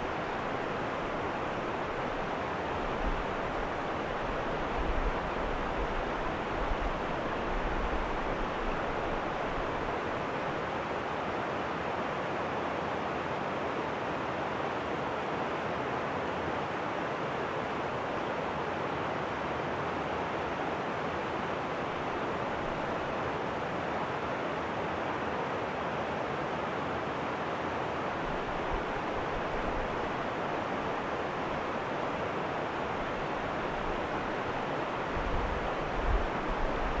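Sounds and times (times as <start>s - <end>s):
stream water rushing over rocks: 0.0s - 37.0s.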